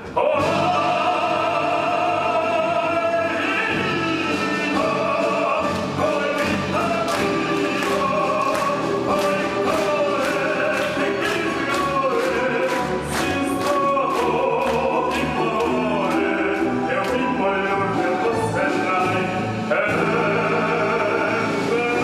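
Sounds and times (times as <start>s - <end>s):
orchestra music with singing: 0.0s - 22.0s.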